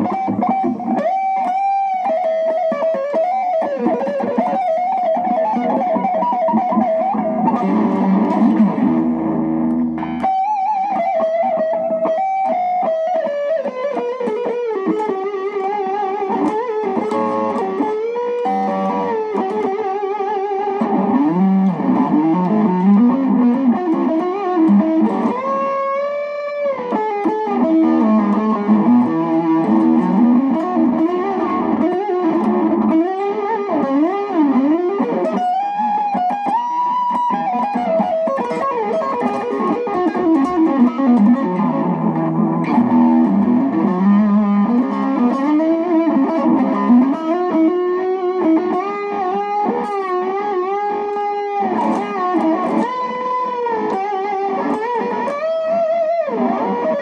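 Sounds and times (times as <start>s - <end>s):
electric guitar lead line: 0.0s - 57.0s.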